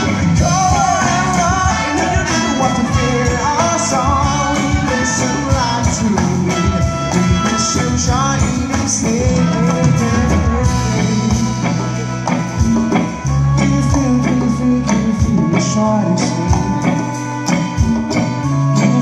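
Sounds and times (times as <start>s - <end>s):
drums: 0.0s - 19.0s
electric guitars: 0.0s - 19.0s
man singing: 0.0s - 19.0s.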